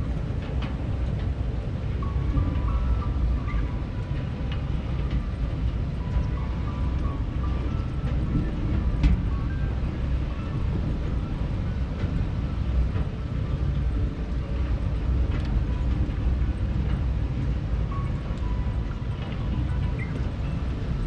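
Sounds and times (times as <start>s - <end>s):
ride mechanical rumble: 0.0s - 21.0s.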